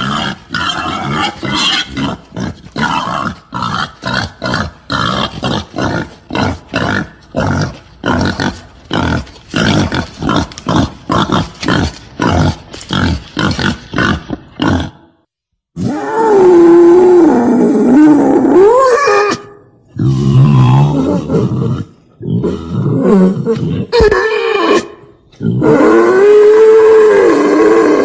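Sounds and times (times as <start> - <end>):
wild boar grunting and squealing: 0.0 - 15.1, 15.8 - 28.0.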